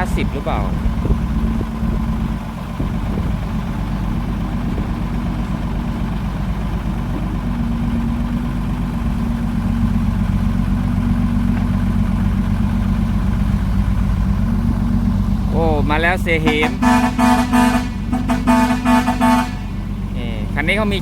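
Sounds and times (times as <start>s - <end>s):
heavy vehicle engine idling: 0.0s - 21.0s.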